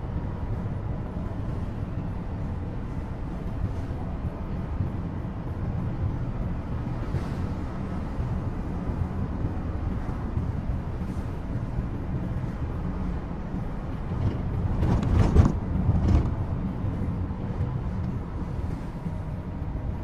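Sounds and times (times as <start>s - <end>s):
diesel engine in van cabin: 0.0s - 20.0s
tyres on the road: 0.0s - 20.0s.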